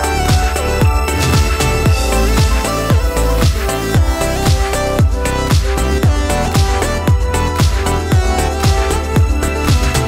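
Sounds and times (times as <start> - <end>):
kick drum: 0.0 - 10.0
sustained synth notes: 0.0 - 10.0.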